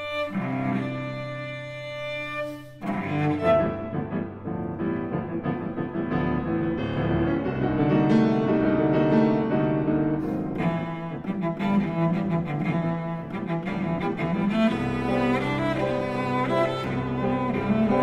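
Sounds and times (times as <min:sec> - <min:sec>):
cello: 0:00.0 - 0:18.0
grand piano: 0:00.0 - 0:18.0.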